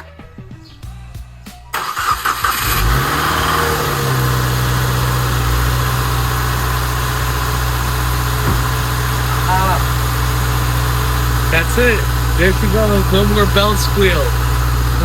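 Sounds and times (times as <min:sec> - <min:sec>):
car engine revving and idling: 0:01.2 - 0:15.0
starter cranking engine: 0:01.7 - 0:15.0.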